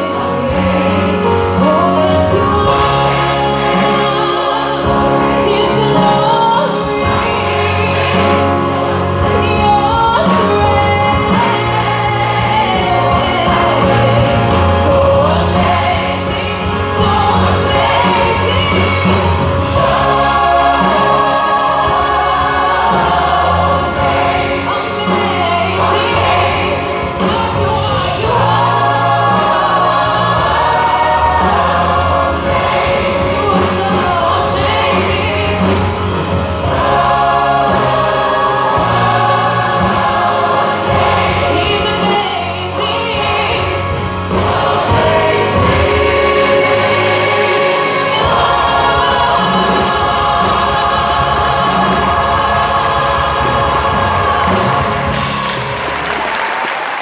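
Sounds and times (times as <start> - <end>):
steady bass: 0.0 - 56.3
choir singing worship song: 0.0 - 57.0
instrumental accompaniment: 0.0 - 57.0.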